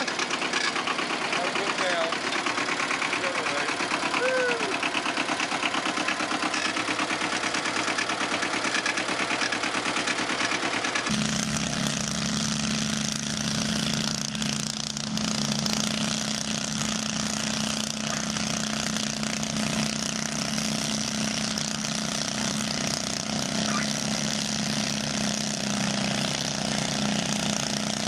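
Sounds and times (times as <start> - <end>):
engine droning: 0.0 - 28.0
tractor engine chugging: 0.0 - 28.0.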